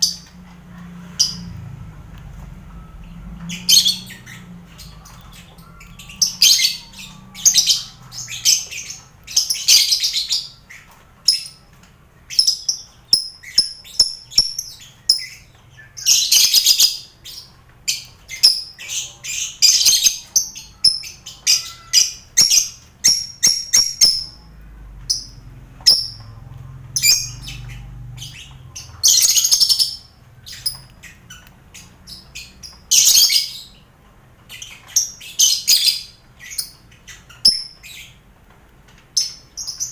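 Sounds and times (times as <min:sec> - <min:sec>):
birds chirping and screeching: 0:00.0 - 0:39.9.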